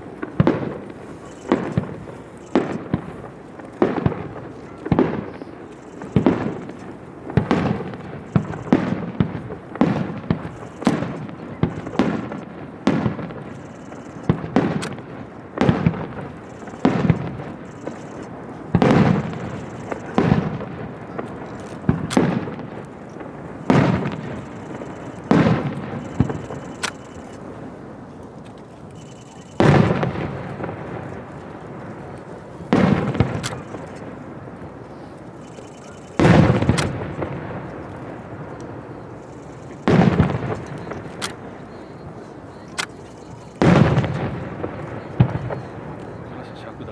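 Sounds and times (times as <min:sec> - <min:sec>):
fireworks bursting with echo: 0:00.0 - 0:46.9.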